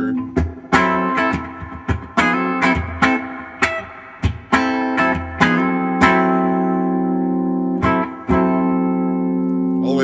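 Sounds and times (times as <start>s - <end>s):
electric guitar strumming chords: 0.0s - 10.0s.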